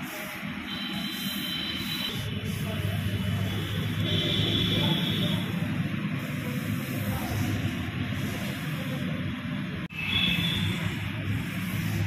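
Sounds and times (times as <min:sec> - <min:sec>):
palms rubbing on laminate sheet: 0:00.0 - 0:09.4, 0:10.3 - 0:12.0.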